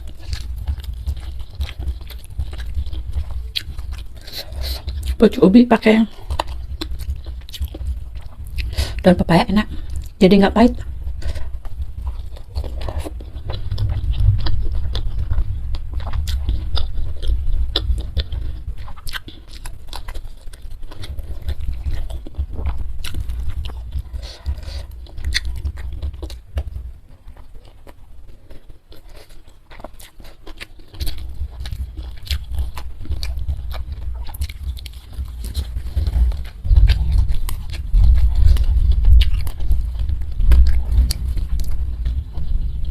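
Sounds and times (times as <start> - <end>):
chewing and biting food: 0.0 - 42.9
wet mouth sounds: 0.0 - 42.9.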